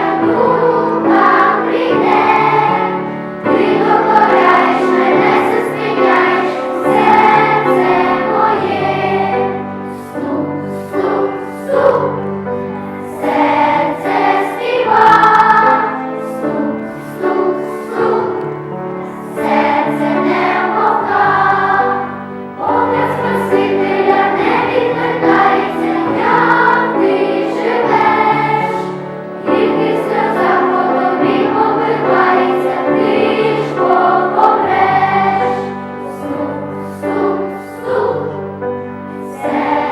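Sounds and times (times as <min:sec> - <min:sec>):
choir singing: 0:00.0 - 0:39.9
musical accompaniment: 0:00.0 - 0:39.9.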